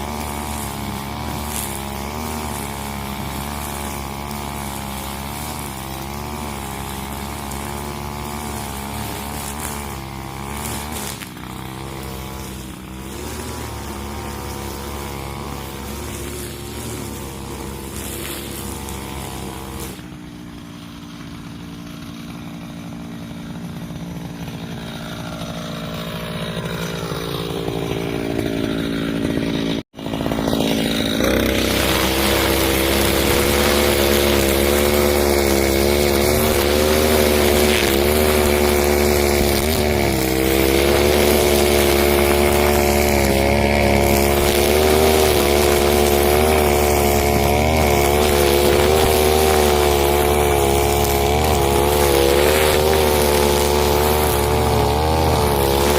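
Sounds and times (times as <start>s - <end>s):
brushcutter engine running: 0.0s - 55.9s.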